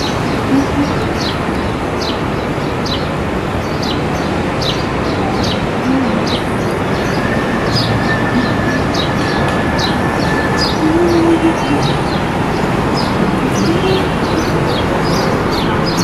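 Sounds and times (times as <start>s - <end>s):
loud rushing background noise: 0.0s - 16.0s
bird chirping: 2.0s - 16.0s.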